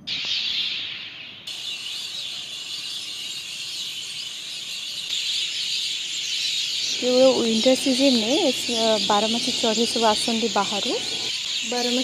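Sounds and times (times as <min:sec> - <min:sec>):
flock of birds chirping: 0:00.0 - 0:12.0.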